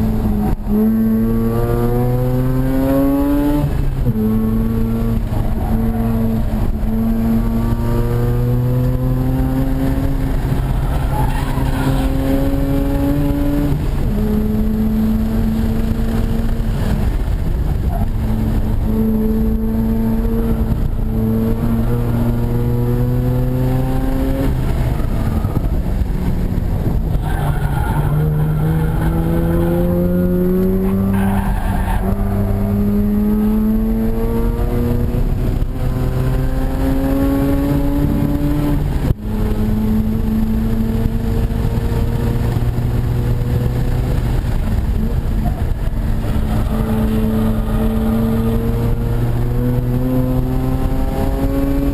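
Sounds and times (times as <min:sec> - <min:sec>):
rotary engine revving at full throttle: 0:00.0 - 0:51.9.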